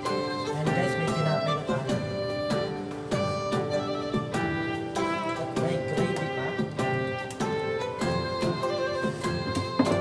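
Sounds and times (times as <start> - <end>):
instrumental music with held notes: 0.0 - 10.0.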